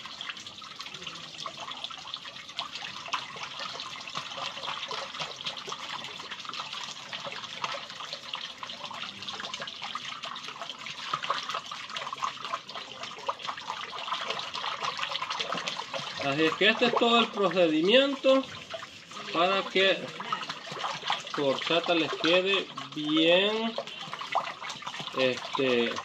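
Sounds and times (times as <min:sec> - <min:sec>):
liquid trickling and dripping: 0:00.0 - 0:26.0.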